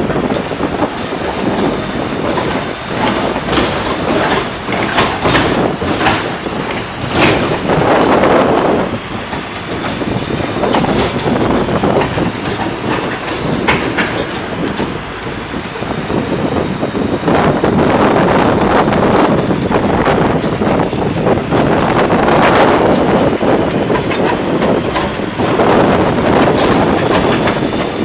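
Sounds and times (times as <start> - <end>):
carriages rattling and clicking: 0.0 - 28.0
road train rumble: 0.0 - 28.0.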